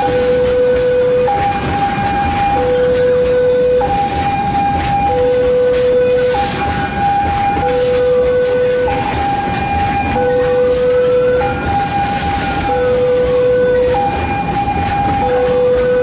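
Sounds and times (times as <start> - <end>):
level crossing two-tone alarm: 0.0 - 16.0
rail traffic rumble: 0.0 - 16.0.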